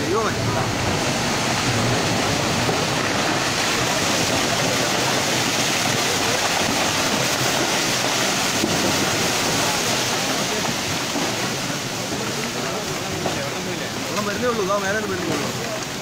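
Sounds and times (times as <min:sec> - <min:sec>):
floodwater rushing down hillside: 0:00.0 - 0:16.0.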